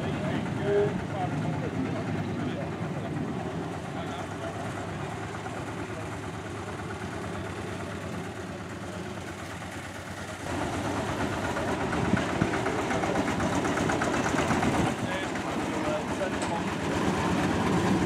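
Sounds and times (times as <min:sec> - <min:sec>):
locomotive diesel engine running: 0:00.0 - 0:18.0.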